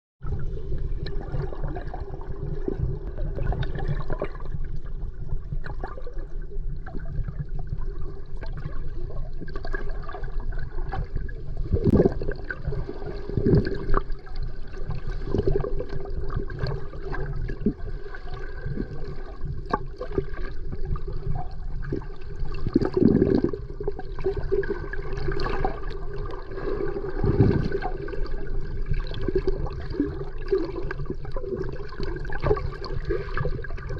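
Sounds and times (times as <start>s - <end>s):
bubbling gurgles: 0.2s - 33.9s
underwater rush of water: 0.2s - 33.9s.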